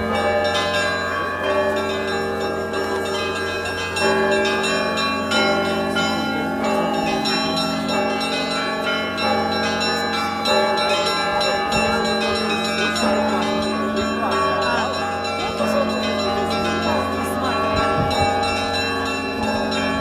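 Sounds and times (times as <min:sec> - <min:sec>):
church bells ringing: 0:00.0 - 0:20.0
steady low bell tone: 0:00.0 - 0:20.0.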